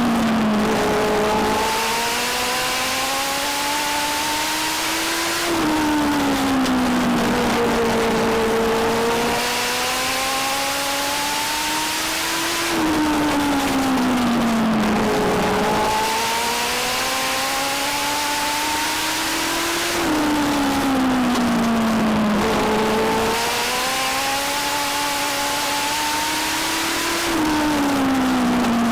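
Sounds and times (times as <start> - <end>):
race car engine at racing speed: 0.0 - 28.9.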